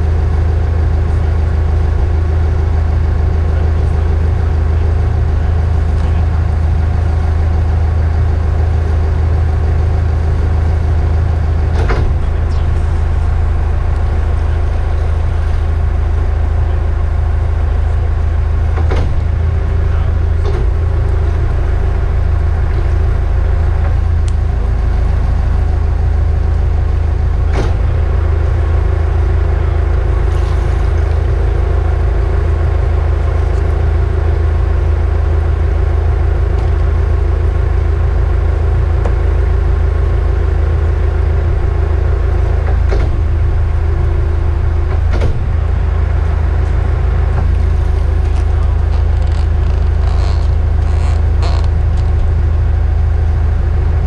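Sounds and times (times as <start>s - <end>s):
boat diesel engines droning: 0.0s - 54.0s.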